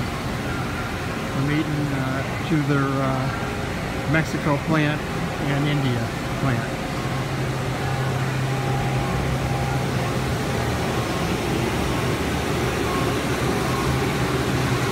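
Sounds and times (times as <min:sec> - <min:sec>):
lathe running with low hum: 0:00.0 - 0:14.9.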